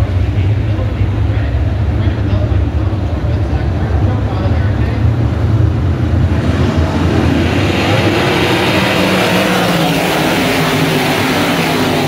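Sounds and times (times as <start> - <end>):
racing car engines roaring: 0.0 - 12.0.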